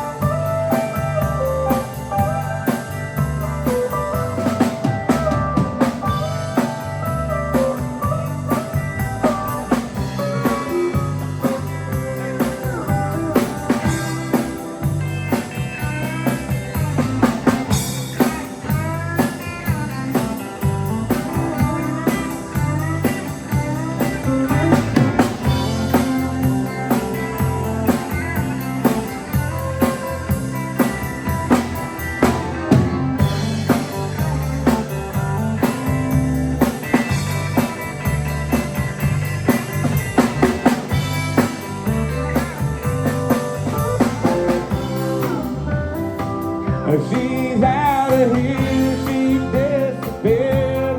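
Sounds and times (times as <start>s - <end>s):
country band playing: 0.0s - 50.9s
lead solo with bending notes: 0.0s - 50.9s.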